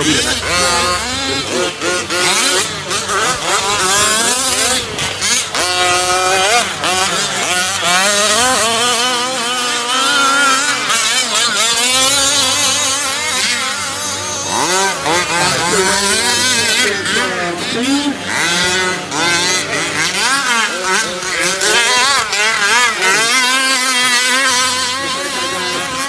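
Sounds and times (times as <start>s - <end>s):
small two-stroke engines revving: 0.0s - 26.0s.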